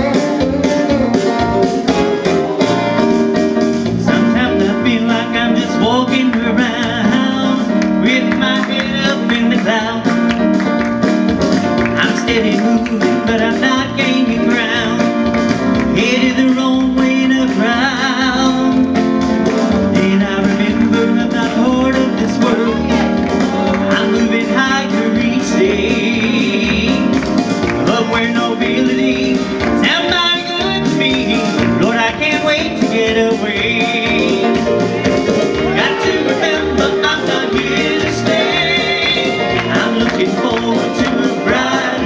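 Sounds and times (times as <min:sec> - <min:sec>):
man singing with vibrato: 0:00.0 - 0:10.6, 0:11.8 - 0:42.0
electric keyboard with beat: 0:00.0 - 0:42.0.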